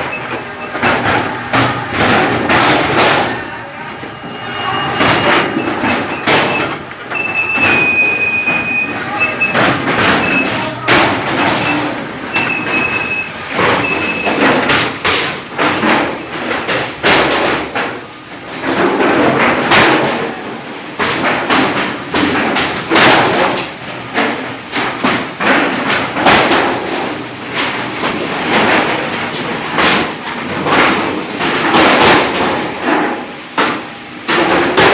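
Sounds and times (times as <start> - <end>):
machines rattling and clacking: 0.0 - 34.9.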